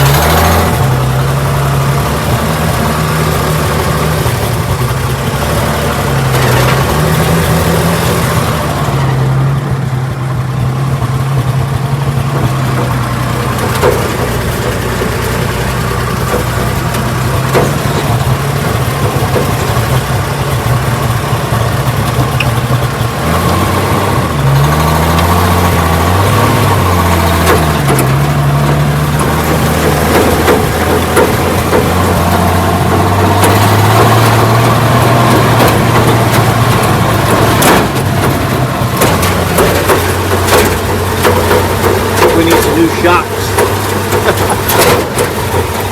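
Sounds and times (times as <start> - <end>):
knocks and rattles: 0.0 - 45.9
vehicle engine running: 0.0 - 45.9.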